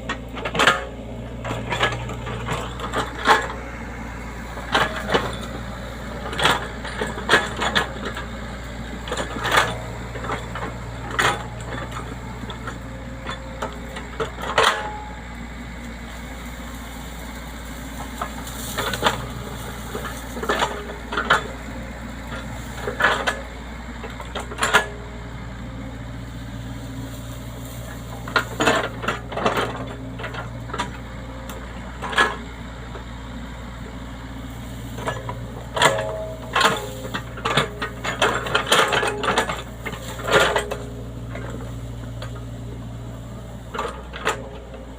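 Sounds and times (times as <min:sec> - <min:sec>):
machine knocks and clanks: 0:00.0 - 0:03.8, 0:04.6 - 0:15.2, 0:17.0 - 0:25.2, 0:26.2 - 0:33.0, 0:33.9 - 0:44.9
excavator diesel engine running: 0:00.0 - 0:44.9.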